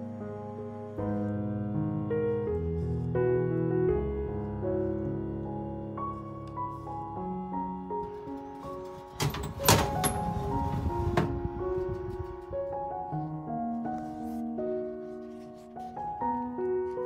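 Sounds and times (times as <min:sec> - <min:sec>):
gentle solo piano music: 0:00.0 - 0:17.0.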